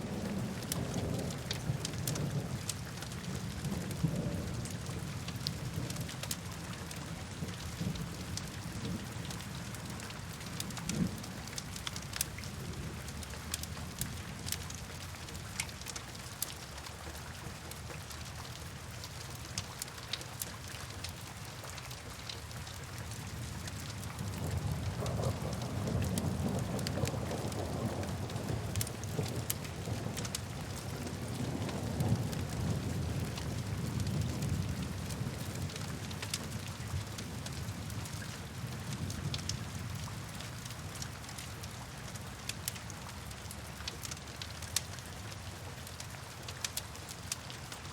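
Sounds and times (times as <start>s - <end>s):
steady rain: 0.0s - 47.9s
rain drop ticks: 0.1s - 47.9s.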